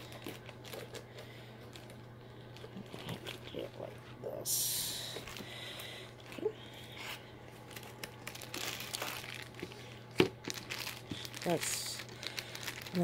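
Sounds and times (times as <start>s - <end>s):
plastic packaging crinkling: 0.0s - 4.1s, 5.1s - 13.0s.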